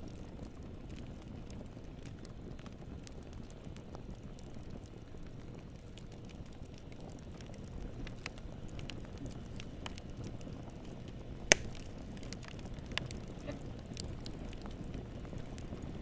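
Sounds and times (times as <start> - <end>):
low rumble of flames: 0.0 - 16.0
sharp pops from fire: 0.0 - 16.0
wood fire crackling: 0.0 - 16.0.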